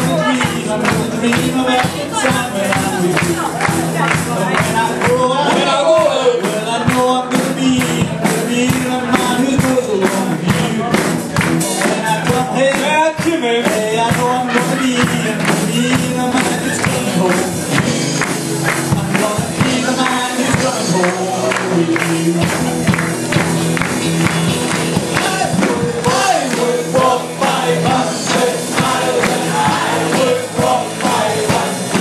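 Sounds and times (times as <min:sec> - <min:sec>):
live band playing pop-rock: 0:00.0 - 0:32.0
voices singing along: 0:00.0 - 0:32.0.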